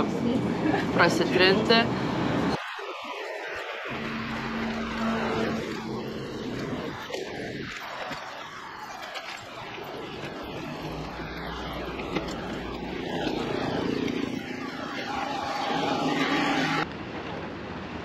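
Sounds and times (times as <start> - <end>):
traffic rush and rolling noise: 0.0 - 18.0
vehicle engine drone: 0.0 - 18.0.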